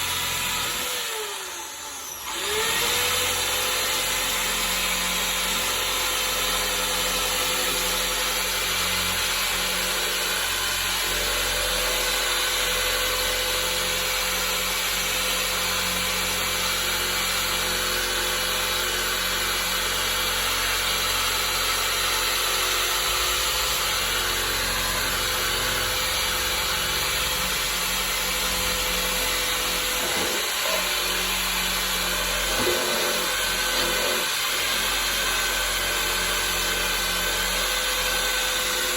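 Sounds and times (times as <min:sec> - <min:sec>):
power drill whining: 0:00.0 - 0:38.9.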